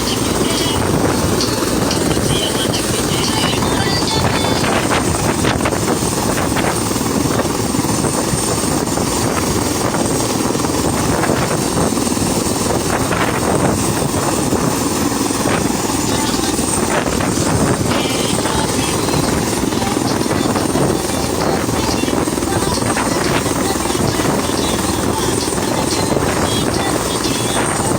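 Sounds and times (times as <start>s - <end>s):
aircraft engine and rotor: 0.0s - 27.9s.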